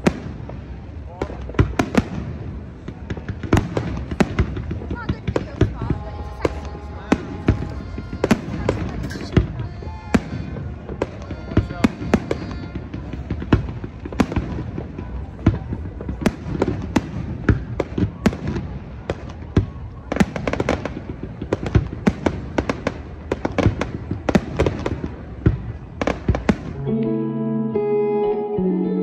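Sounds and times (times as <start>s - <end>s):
fireworks bangs and cracks: 0.0s - 26.8s.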